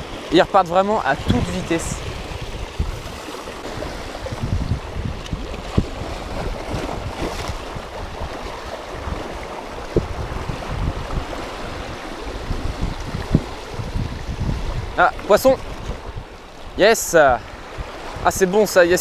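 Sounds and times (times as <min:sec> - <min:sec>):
waves splashing against rocks: 0:00.0 - 0:19.0
wind buffeting microphone: 0:00.0 - 0:19.0.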